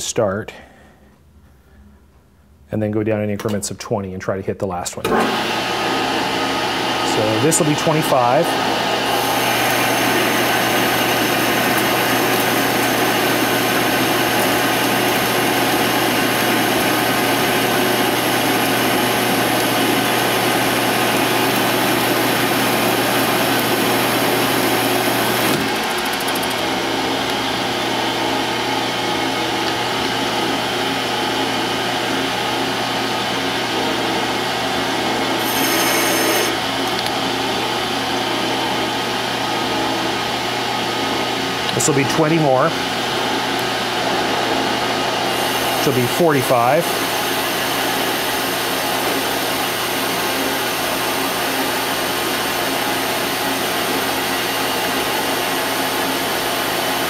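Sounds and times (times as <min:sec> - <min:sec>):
metal lathe humming: 0:05.2 - 0:37.9, 0:41.6 - 0:55.2.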